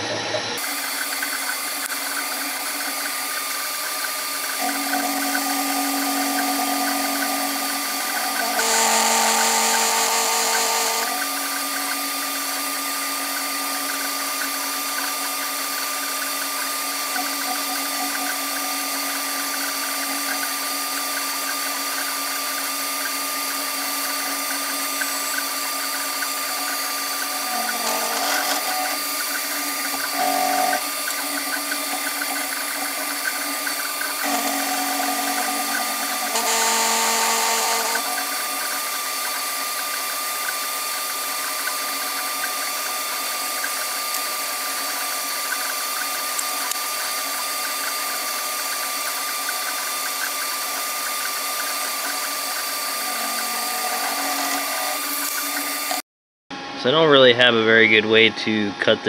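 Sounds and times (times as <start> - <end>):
milling machine spindle whine: 0.0 - 56.0.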